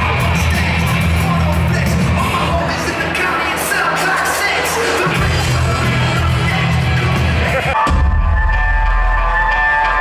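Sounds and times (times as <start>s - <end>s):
live band playing loud music: 0.0s - 10.0s
person singing: 0.0s - 10.0s.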